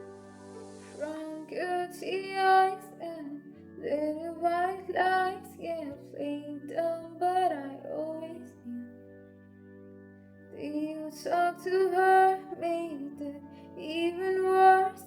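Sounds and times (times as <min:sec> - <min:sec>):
soft instrumental backing chords: 0:00.0 - 0:15.0
young woman singing: 0:01.0 - 0:08.9, 0:10.6 - 0:15.0.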